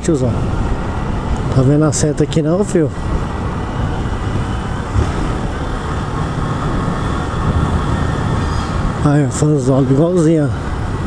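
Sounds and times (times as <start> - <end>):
motorcycle engine at low revs: 0.0 - 11.0
wind and road noise: 0.0 - 11.0.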